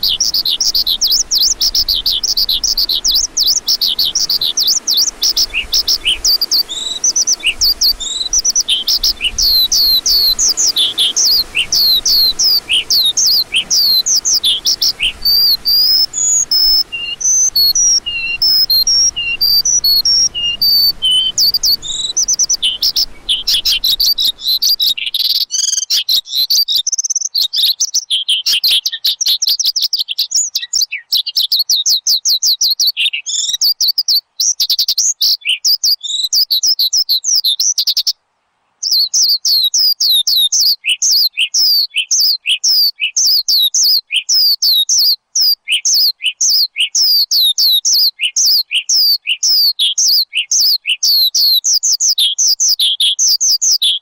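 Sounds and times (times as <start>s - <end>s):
lark singing: 0.0s - 29.2s, 38.8s - 54.0s
faint background hiss: 0.0s - 54.0s.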